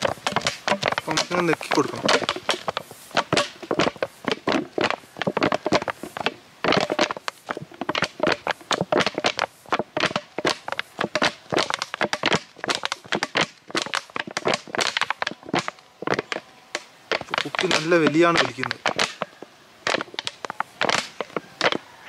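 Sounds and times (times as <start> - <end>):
plastic bottle crinkling: 0.0 - 22.0.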